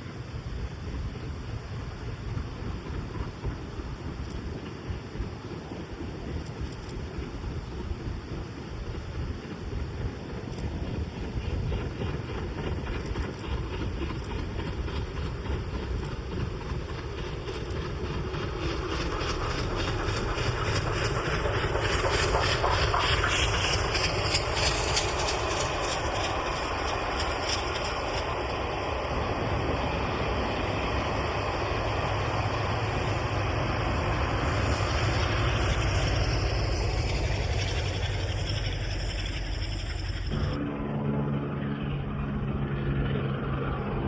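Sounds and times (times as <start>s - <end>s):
steam locomotive exhaust beats: 0.0s - 42.6s
train rumbling on rails: 0.0s - 44.0s.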